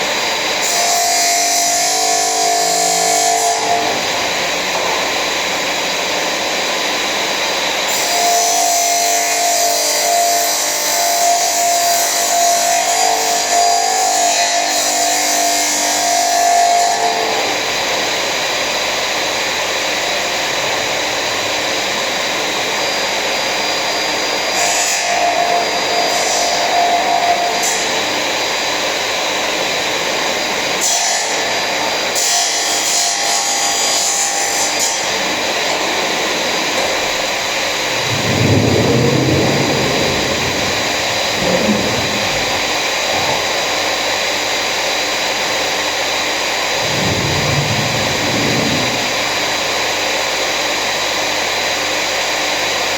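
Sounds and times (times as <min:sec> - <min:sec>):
power tool cutting wood: 0:00.0 - 0:18.8, 0:19.4 - 0:51.0.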